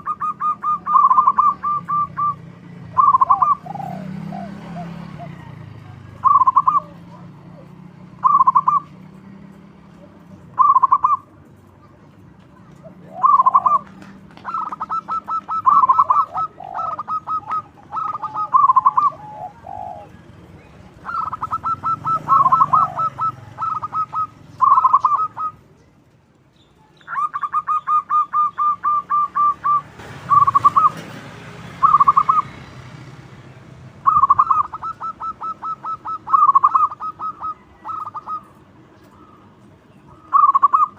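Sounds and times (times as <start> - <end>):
dove cooing: 0.0 - 9.3, 9.9 - 11.9, 12.6 - 25.9, 27.0 - 32.8, 34.0 - 40.9.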